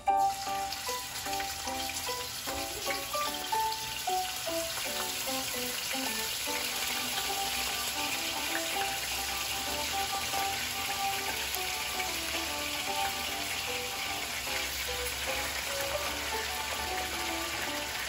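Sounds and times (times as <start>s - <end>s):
background music: 0.0s - 18.0s
oil sizzling in a frying pan: 0.0s - 18.0s.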